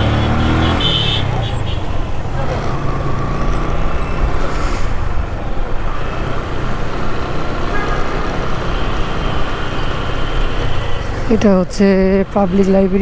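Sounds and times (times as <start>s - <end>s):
motorcycle engine: 0.0s - 11.3s
road traffic: 0.0s - 13.0s.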